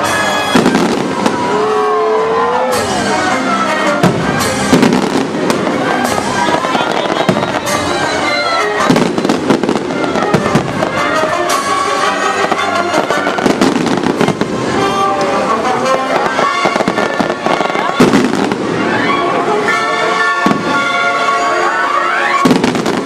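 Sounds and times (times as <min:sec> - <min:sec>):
fireworks bursting: 0:00.0 - 0:23.0
music soundtrack: 0:00.0 - 0:23.0.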